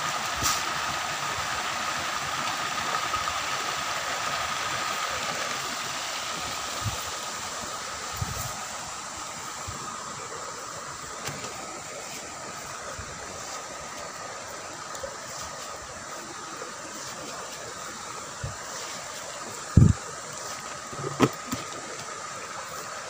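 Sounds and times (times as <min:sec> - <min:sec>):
water jets splashing into pond: 0:00.0 - 0:23.0.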